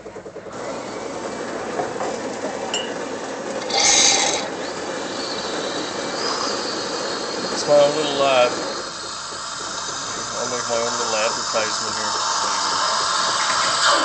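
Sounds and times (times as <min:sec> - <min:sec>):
coffee machine humming: 0:00.0 - 0:14.0
steam hissing: 0:00.0 - 0:14.0.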